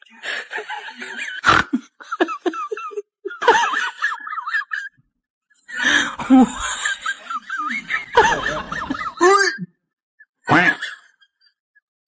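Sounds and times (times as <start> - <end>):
people laughing: 0.1 - 5.0, 5.7 - 9.7, 10.5 - 11.4.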